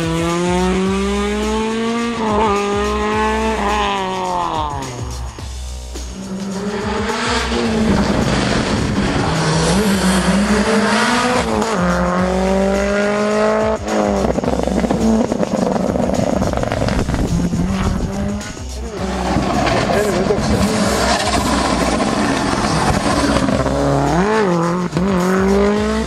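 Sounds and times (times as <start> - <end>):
rally car engine accelerating: 0.0 - 4.9, 6.0 - 26.0.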